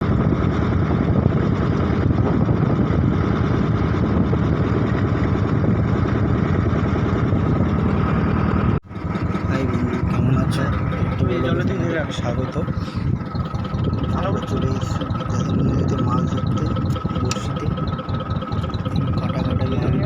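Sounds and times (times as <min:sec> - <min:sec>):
loud low rumbling: 0:00.0 - 0:20.0.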